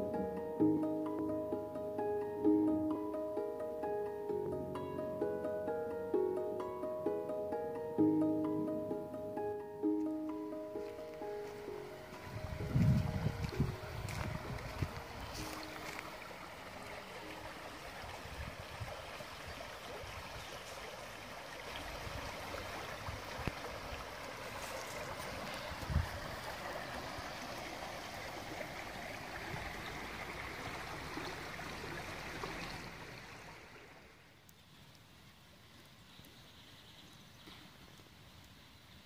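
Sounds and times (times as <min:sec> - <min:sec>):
stream water flowing: 0:00.0 - 0:39.0.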